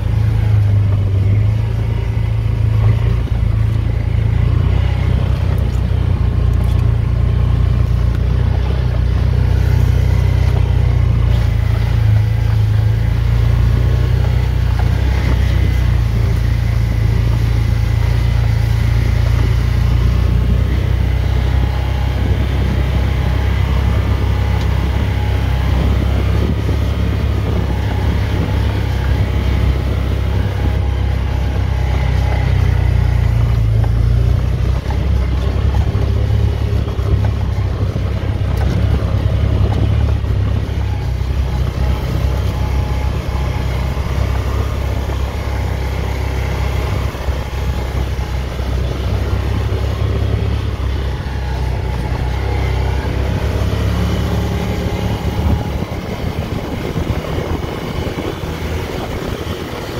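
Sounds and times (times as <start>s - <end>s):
off-road vehicle engine droning: 0.0s - 59.9s.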